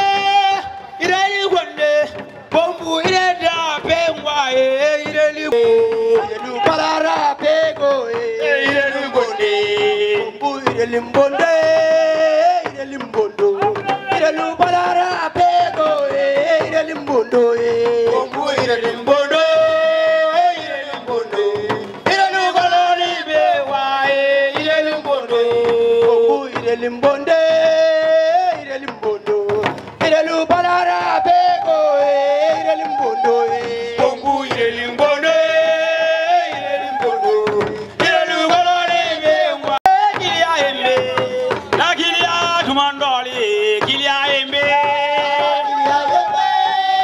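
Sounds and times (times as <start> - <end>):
steady drumming: 0.0 - 47.0.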